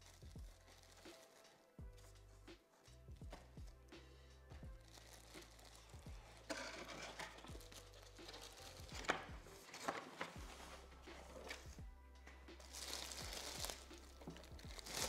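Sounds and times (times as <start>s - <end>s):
background music with bass beat: 0.0s - 1.2s, 1.8s - 9.6s, 10.4s - 15.0s
plastic wrapping crinkling: 0.0s - 3.9s, 4.6s - 15.0s.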